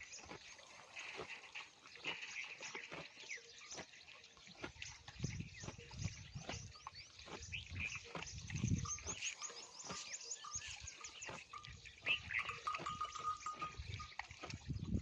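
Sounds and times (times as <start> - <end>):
camel chewing with wet smacks: 0.0 - 15.0
small birds chirping: 0.0 - 15.0.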